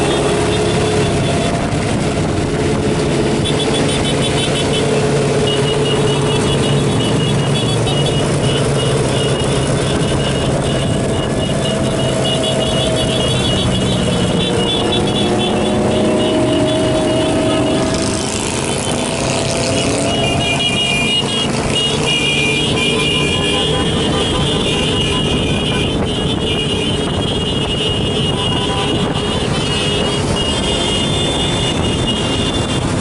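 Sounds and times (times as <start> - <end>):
motorcycle engines in traffic: 0.0 - 33.0
road noise: 0.0 - 33.0.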